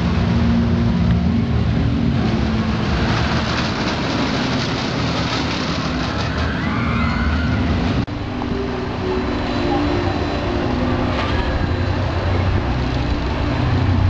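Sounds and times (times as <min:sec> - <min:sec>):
roller coaster train roaring: 0:00.0 - 0:14.0.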